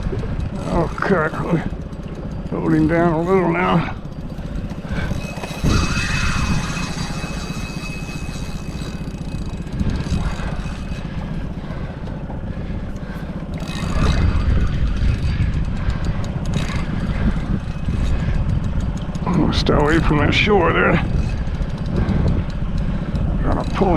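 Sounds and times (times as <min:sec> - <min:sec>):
boat engine running: 0:00.0 - 0:23.9.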